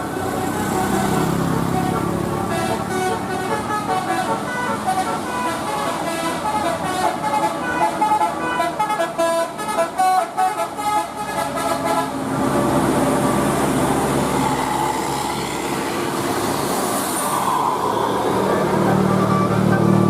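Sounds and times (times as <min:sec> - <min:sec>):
multi-tone bus horn melody: 0:00.0 - 0:16.7, 0:17.3 - 0:20.0
vehicle engine and road noise: 0:00.0 - 0:20.0.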